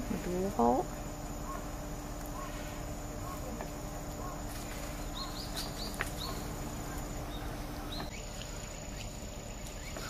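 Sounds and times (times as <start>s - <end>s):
outdoor background hiss: 0.0s - 10.0s
small birds chirping: 0.0s - 10.0s.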